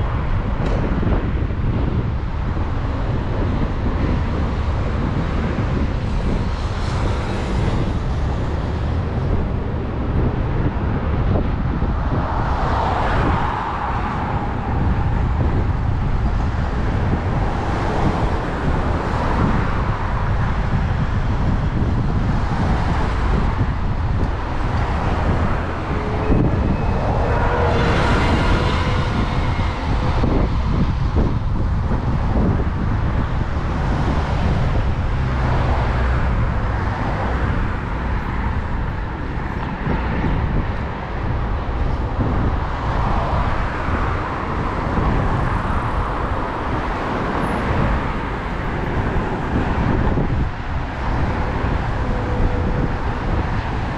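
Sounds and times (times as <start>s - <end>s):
cars passing: 0.0s - 53.9s
low traffic rumble: 0.0s - 53.9s.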